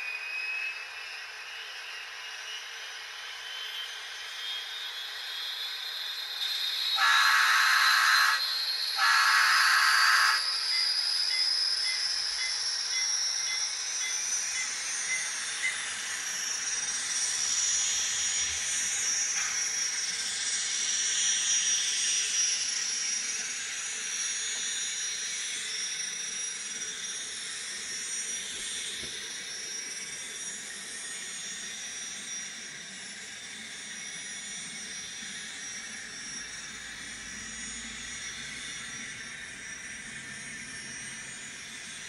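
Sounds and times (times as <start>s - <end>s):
model train turbine whine from speaker: 0.0s - 42.0s.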